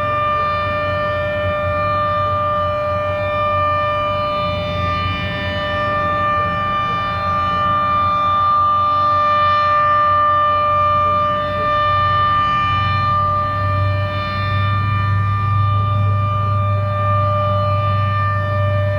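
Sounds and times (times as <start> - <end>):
warning siren steady tone: 0.0 - 18.9.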